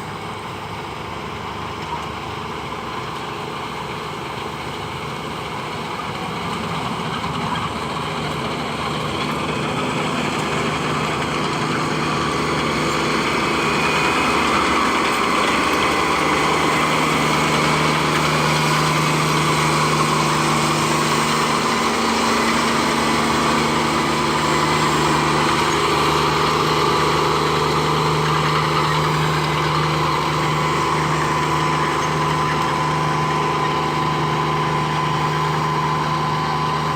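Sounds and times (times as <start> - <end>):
combine harvester droning: 0.0 - 36.9.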